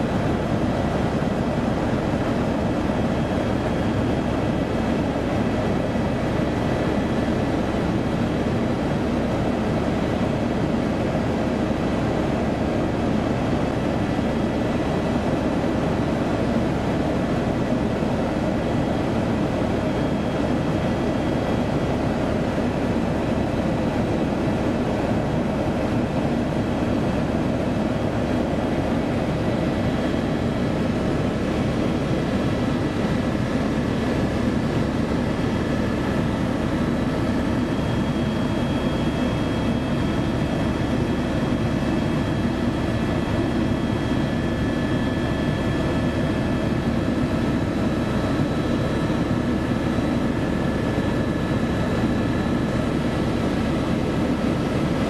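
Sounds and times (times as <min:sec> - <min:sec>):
aircraft engine drone: 0:00.0 - 0:55.0
faint steady whines: 0:00.0 - 0:55.0.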